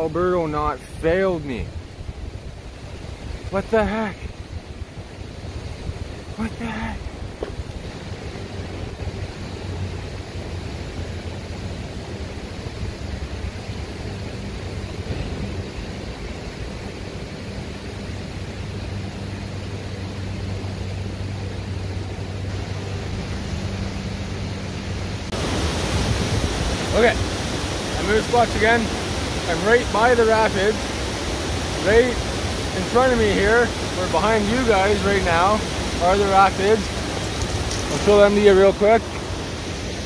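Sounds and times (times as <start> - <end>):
fast-flowing river water rushing: 1.0 - 40.0.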